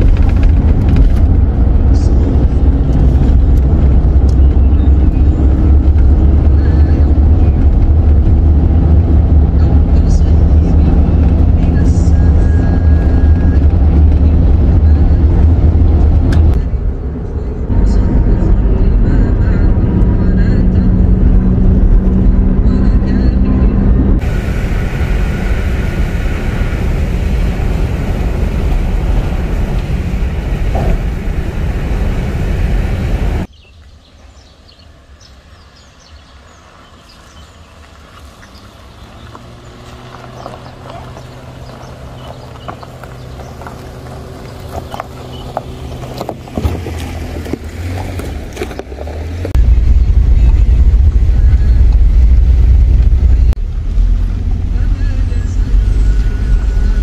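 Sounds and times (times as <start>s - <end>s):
road rumble inside car: 0.0s - 33.6s, 34.3s - 57.0s
car rumbling on rough track: 0.0s - 57.0s
engine hum approaching: 0.0s - 57.0s.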